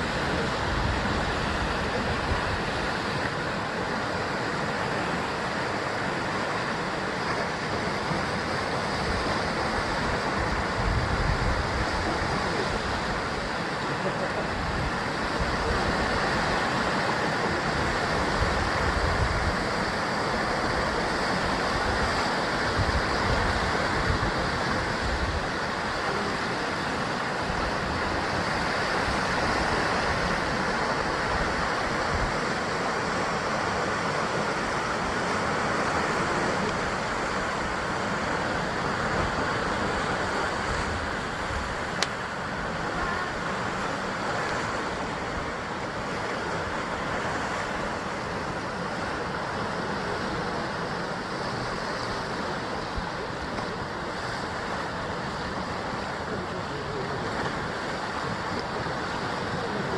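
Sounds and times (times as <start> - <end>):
waves breaking on rocks: 0.0 - 59.9.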